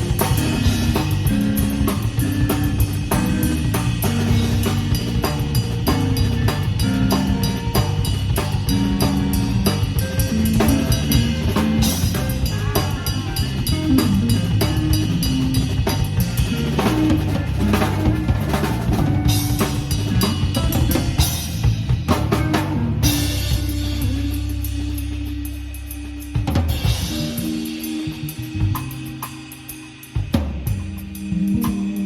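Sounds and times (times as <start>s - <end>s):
drum kit playing: 0.0s - 32.0s
live jazz band: 0.0s - 32.0s.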